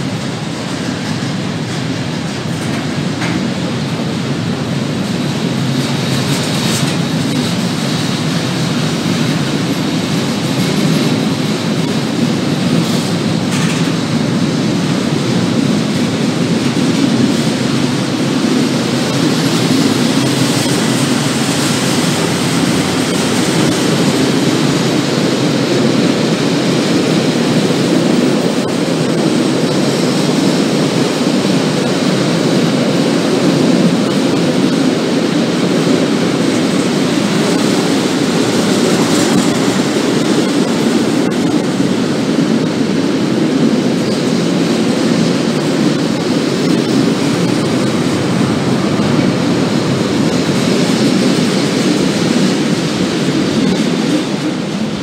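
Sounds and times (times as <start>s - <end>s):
freight wagons rolling on rails: 0.0s - 55.0s.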